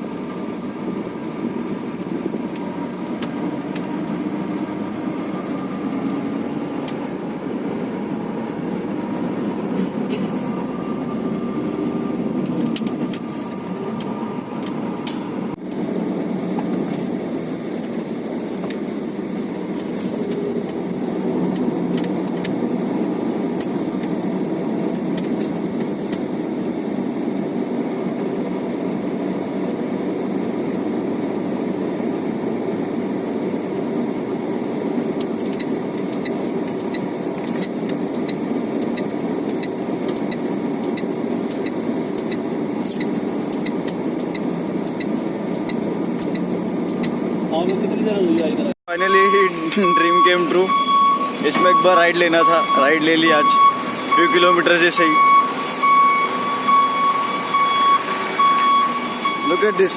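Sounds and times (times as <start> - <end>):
truck engine and road drone: 0.0 - 59.9.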